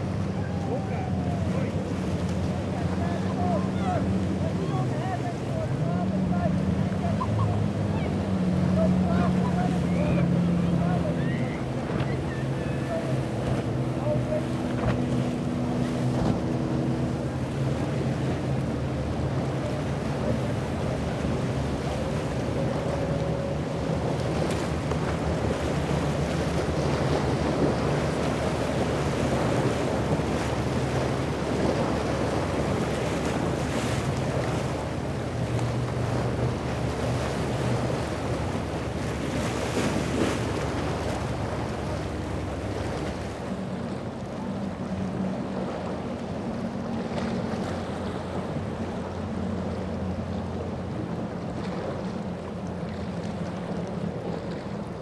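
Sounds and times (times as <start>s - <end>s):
motorboat engine running: 0.0s - 55.0s
waves splashing: 0.0s - 55.0s.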